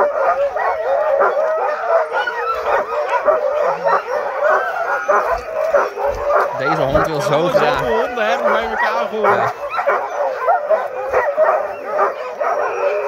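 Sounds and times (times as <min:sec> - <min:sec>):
huskies barking and howling: 0:00.0 - 0:13.0.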